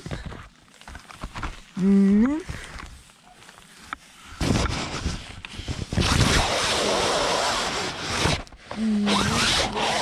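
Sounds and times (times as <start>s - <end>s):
tent fabric rustling: 0.8s - 10.0s.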